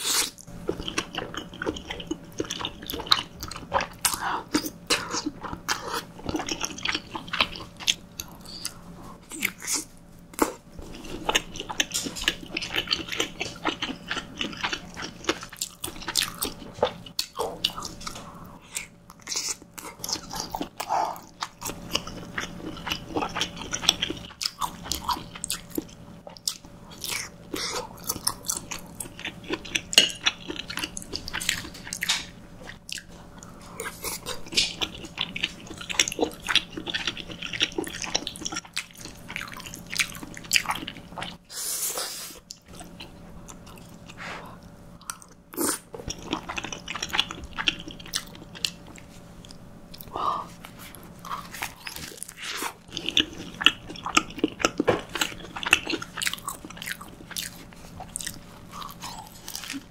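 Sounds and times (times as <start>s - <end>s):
chewing soft pasta: 0.0s - 59.9s.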